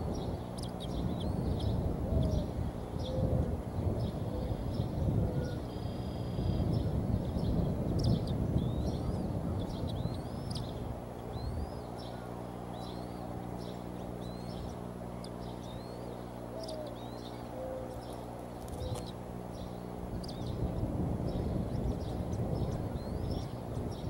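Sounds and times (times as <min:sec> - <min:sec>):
eaglets peeping: 0:00.0 - 0:24.0
steady low hum: 0:00.0 - 0:24.0.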